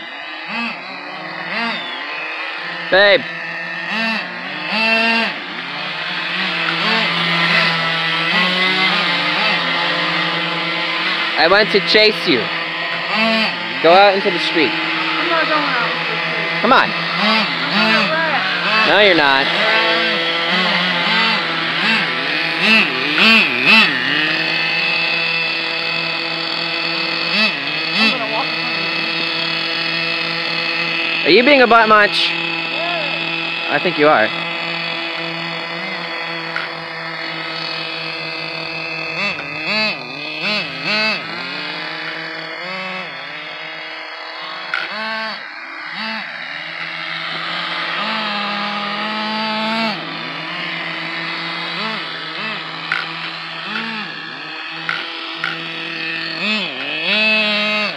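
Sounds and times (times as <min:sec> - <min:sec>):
small engine idling: 0:00.0 - 0:57.9
small engine revving in blips: 0:00.0 - 0:57.9.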